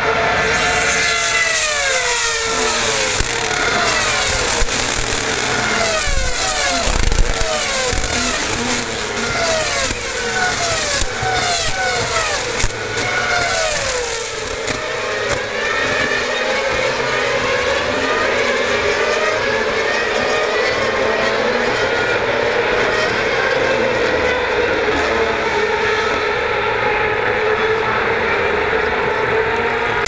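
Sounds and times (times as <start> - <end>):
racing cars passing at high revs: 0.0 - 30.0.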